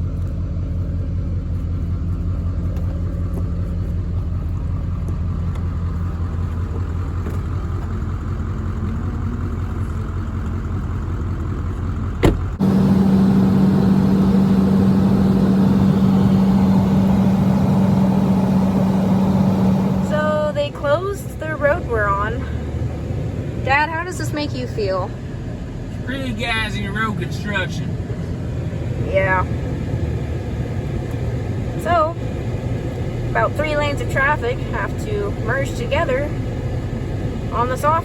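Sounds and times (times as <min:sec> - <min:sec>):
prominent hum: 0:00.0 - 0:38.0
truck engine and road noise: 0:00.0 - 0:38.0.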